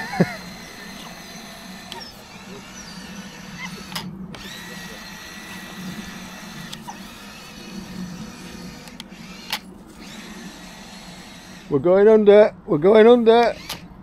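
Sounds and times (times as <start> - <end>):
small electric motors whirring: 0.0 - 12.1, 13.0 - 14.0
sharp clicks: 0.1 - 7.7, 8.6 - 11.7, 13.4 - 13.9.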